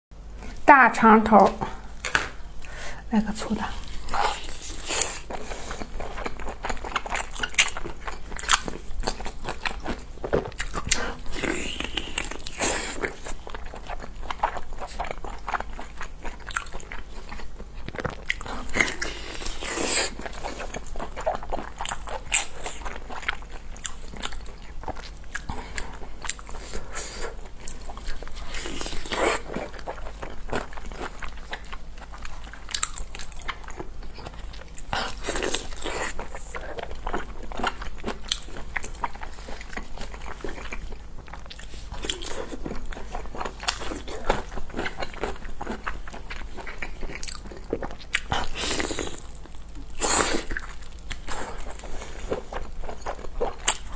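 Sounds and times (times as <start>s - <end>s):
person chewing food: 1.6s - 53.9s.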